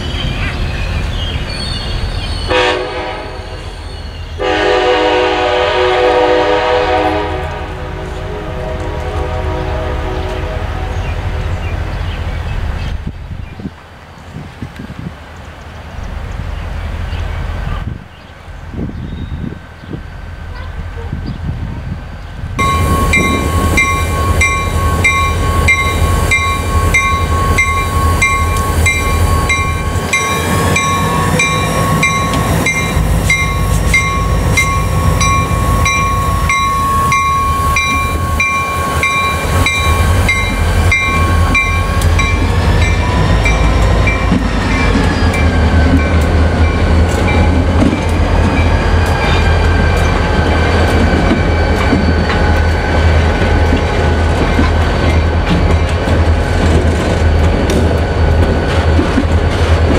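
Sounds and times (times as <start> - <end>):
diesel locomotives rumbling: 0.0 - 59.9.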